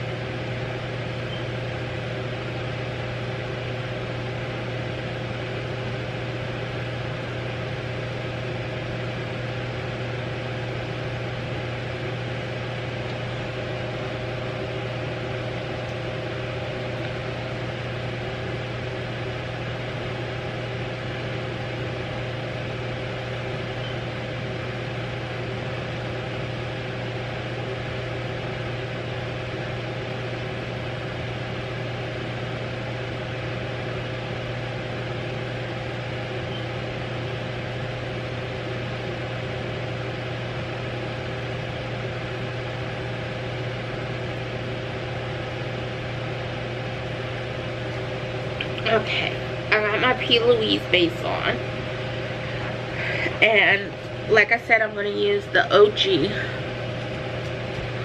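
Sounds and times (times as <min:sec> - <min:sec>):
appliance humming: 0:00.0 - 0:58.0.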